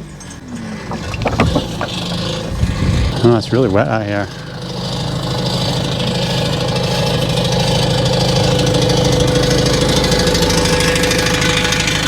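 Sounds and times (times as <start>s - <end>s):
skid steer engine running: 0.5s - 12.0s.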